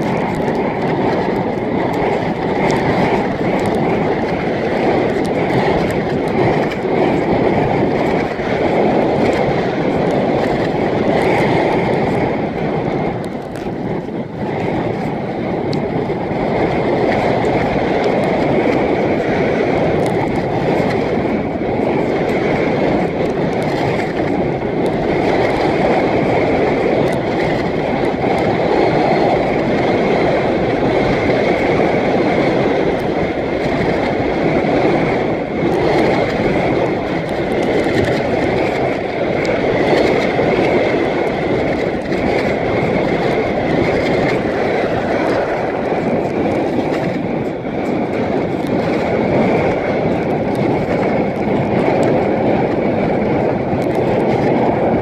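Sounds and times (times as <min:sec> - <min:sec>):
water moving under board: 0:00.0 - 0:55.0
wind noise on microphone: 0:00.0 - 0:55.0.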